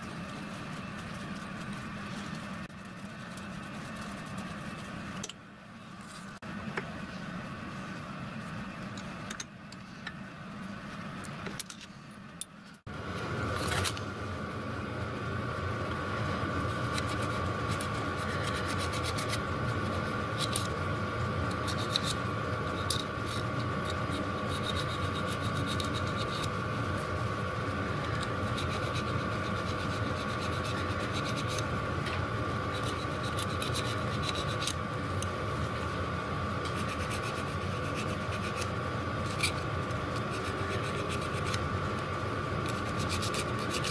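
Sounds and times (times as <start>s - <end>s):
steady hum with faint whine: 0.0s - 43.9s.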